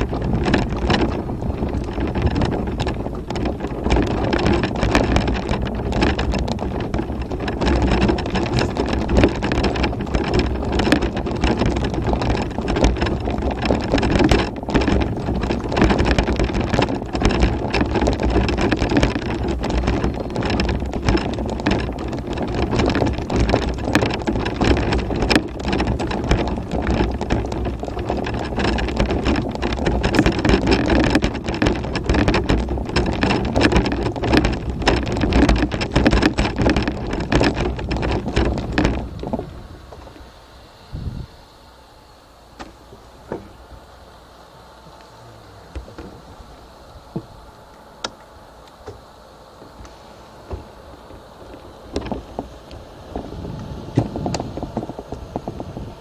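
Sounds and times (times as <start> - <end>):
frame rattling: 0.0 - 40.3, 50.4 - 56.0
tyres crunching on chalk track: 0.0 - 41.9, 44.6 - 56.0
mobility scooter motor: 0.0 - 56.0.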